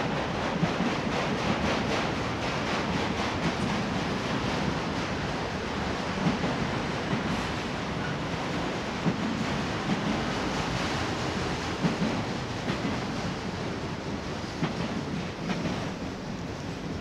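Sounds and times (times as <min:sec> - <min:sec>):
clicks and knocks of rail cars: 0:00.0 - 0:17.0.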